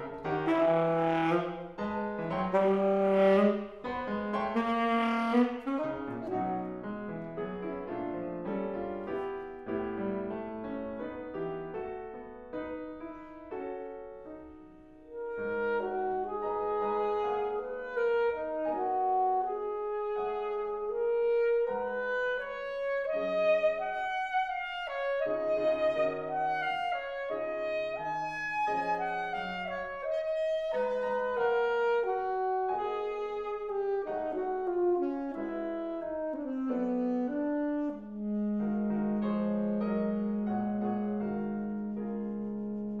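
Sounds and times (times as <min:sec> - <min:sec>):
alto saxophone melody: 0:00.0 - 0:07.4, 0:15.0 - 0:43.0
piano accompaniment: 0:00.0 - 0:43.0.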